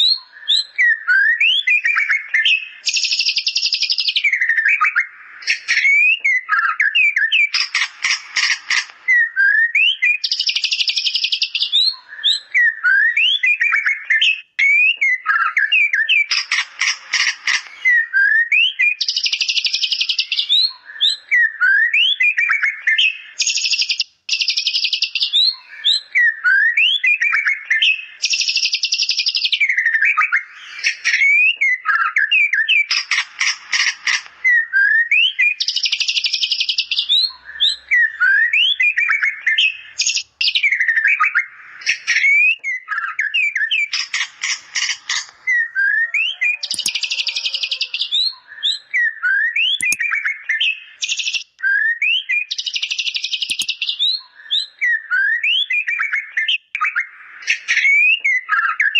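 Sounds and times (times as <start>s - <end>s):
bird whistling and trilling: 0.0s - 16.6s, 17.2s - 44.2s, 45.2s - 58.9s.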